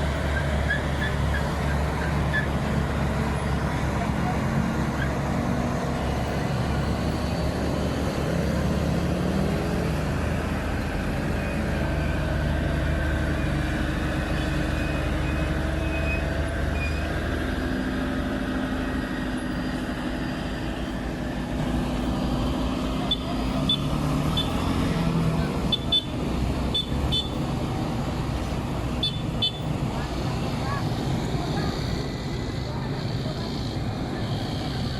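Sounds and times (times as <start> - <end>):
heavy truck engine running: 0.0 - 34.9
road traffic noise: 0.0 - 34.9.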